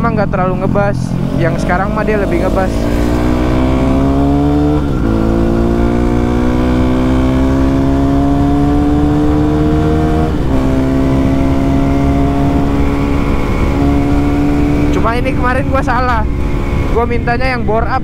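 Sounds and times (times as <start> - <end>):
motorcycle engine accelerating: 0.0 - 17.5.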